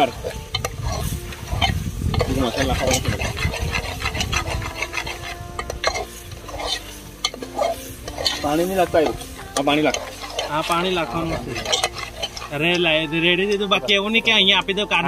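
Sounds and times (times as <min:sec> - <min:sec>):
metal ladle scraping a pot: 0:00.0 - 0:14.8
pot simmering with light sizzle: 0:00.0 - 0:15.0.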